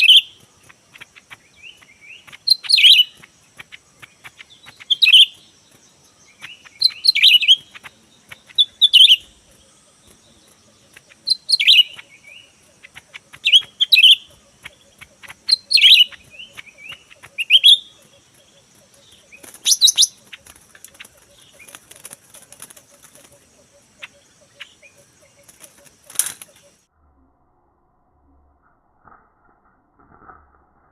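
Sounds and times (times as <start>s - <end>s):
bird giving sharp calls: 0.0s - 5.4s, 6.3s - 26.8s.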